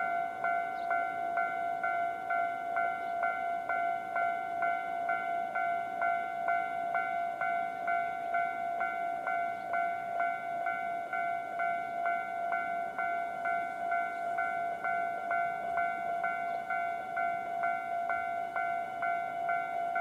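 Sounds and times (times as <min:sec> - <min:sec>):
level crossing warning bell ringing: 0:00.0 - 0:20.0.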